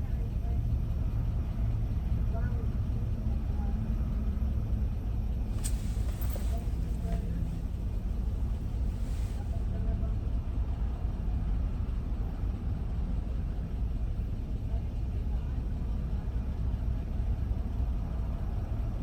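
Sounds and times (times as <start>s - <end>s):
car engine rumble inside cabin: 0.3s - 19.0s.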